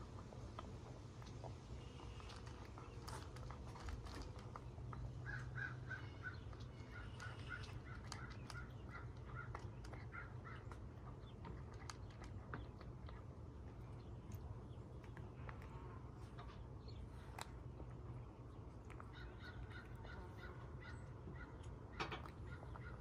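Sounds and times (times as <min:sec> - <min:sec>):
cat crunching dry food: 0:00.0 - 0:19.1.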